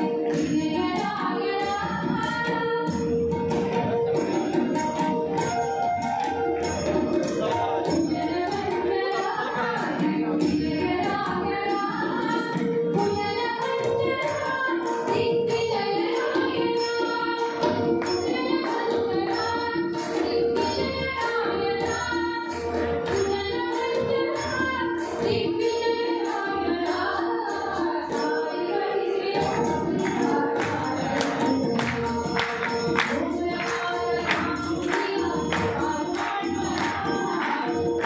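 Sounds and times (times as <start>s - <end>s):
woman singing: 0.0s - 3.8s, 7.8s - 38.0s
harmonium: 0.0s - 38.0s
tabla rhythm: 0.0s - 38.0s.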